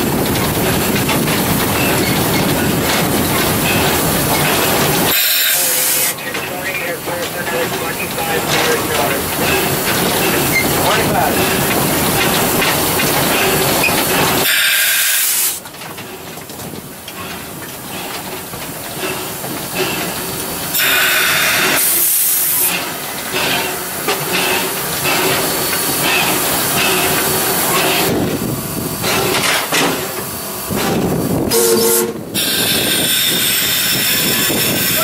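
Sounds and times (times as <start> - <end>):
steam hissing: 0.0 - 15.6, 17.3 - 35.0
steam locomotive running: 0.0 - 35.0.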